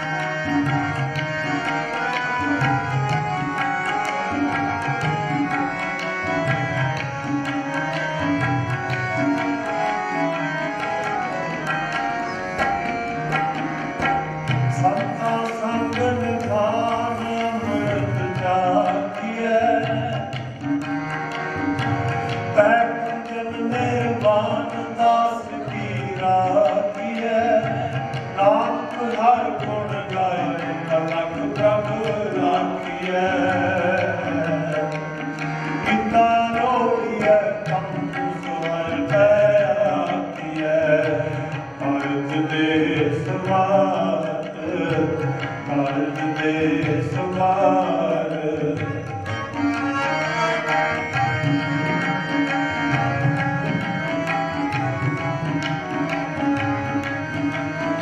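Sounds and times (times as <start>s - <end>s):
harmonium chords: 0.0s - 58.0s
tabla rhythm: 0.0s - 58.0s.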